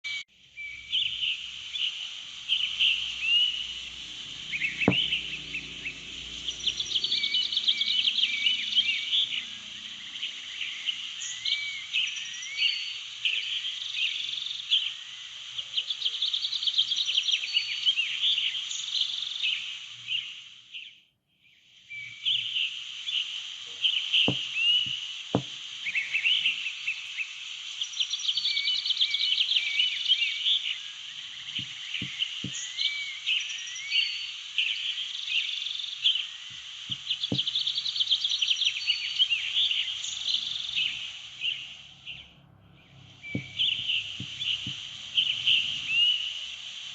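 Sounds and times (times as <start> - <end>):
small birds chirping: 0.1 - 46.9
insects hissing: 0.5 - 20.7, 21.8 - 42.3, 43.0 - 46.9.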